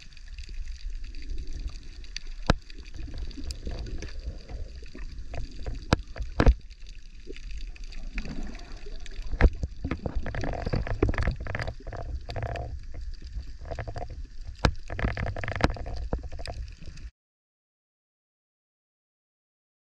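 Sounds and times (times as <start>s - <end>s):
underwater rumble and sloshing: 0.0s - 17.1s.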